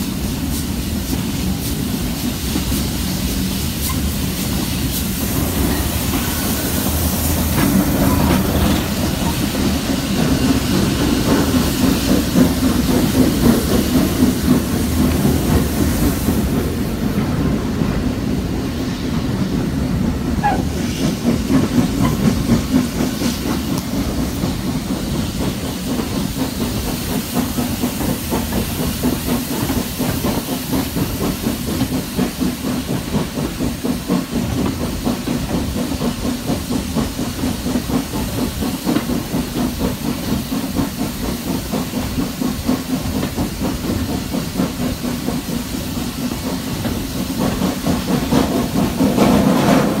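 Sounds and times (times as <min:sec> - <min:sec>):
steam hissing: 0:00.0 - 0:50.0
train rumbling on track: 0:00.0 - 0:50.0.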